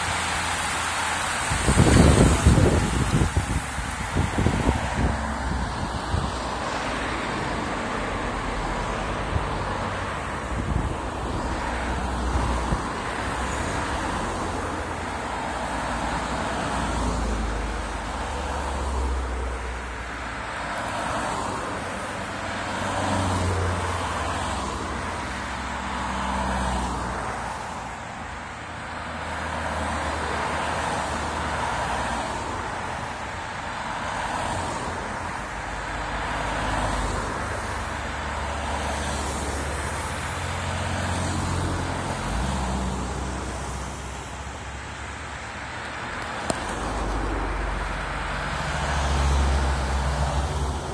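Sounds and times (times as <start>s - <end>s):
cars passing by: 0.0s - 50.9s.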